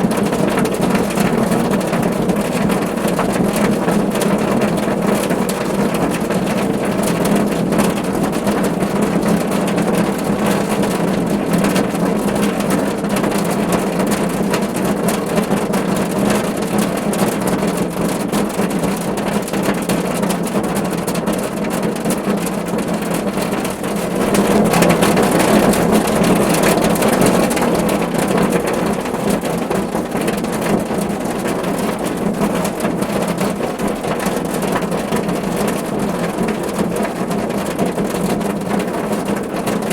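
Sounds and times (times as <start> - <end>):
rain falling on car roof: 0.0 - 39.9.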